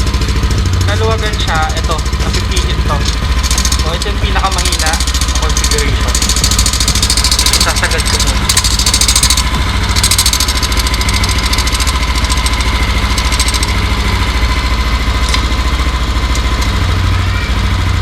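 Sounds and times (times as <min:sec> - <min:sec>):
scooter engine idling: 0:00.0 - 0:18.0.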